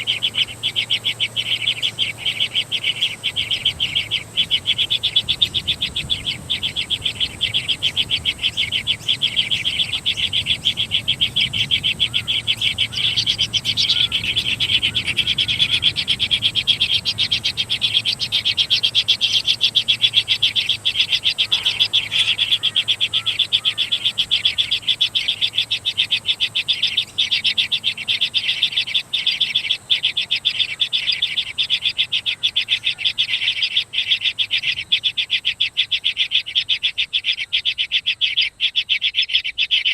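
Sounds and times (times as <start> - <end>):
rapidly pulsing animal chirring: 0.0 - 39.9.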